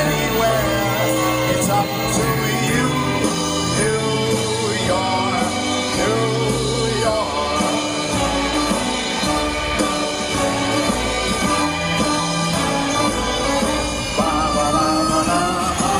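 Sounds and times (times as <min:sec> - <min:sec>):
song with band backing: 0:00.0 - 0:15.9.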